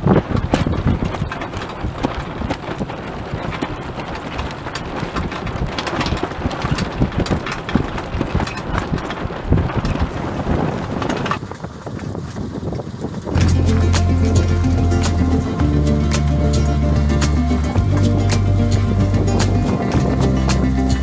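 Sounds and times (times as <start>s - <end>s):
choppy water wash: 0.0s - 21.0s
wind buffeting microphone: 0.0s - 21.0s.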